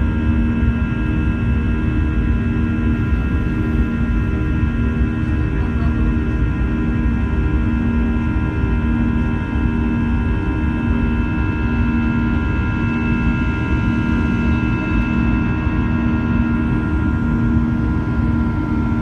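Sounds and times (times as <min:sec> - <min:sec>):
jet engines low rumble: 0:00.0 - 0:19.0.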